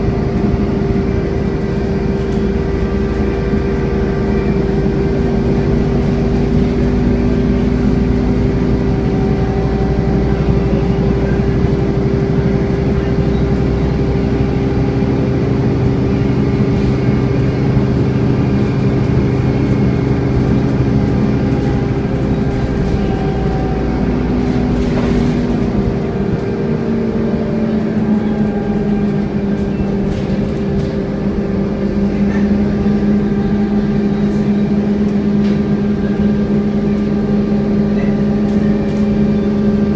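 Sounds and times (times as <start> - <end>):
bus engine running: 0.0 - 39.9
cooling fan whine: 0.0 - 39.9.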